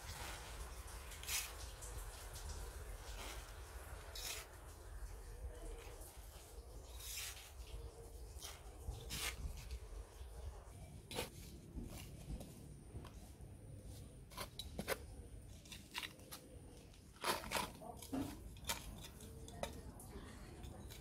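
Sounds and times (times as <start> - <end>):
trowel scraping dry soil: 0.0 - 10.4, 11.0 - 19.9, 20.5 - 21.0.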